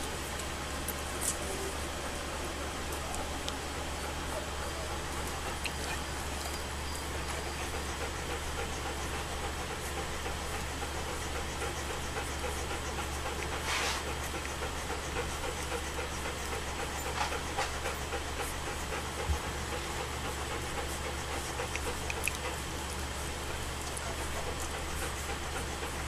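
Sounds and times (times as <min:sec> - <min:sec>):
steady hiss and low hum: 0:00.0 - 0:26.0
faint dog sounds: 0:00.1 - 0:26.0.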